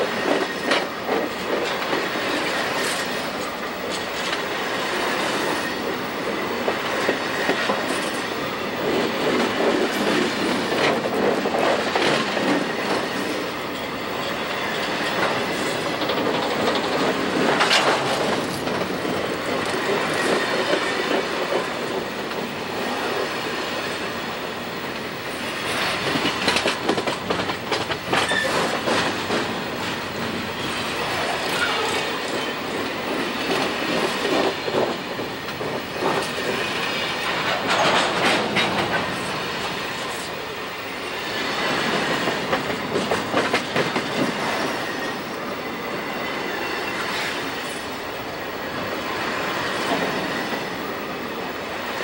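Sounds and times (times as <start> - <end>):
wheels clacking over rail joints: 0.0 - 24.2, 24.8 - 48.2
steel wheels rumbling on rail: 0.0 - 52.0.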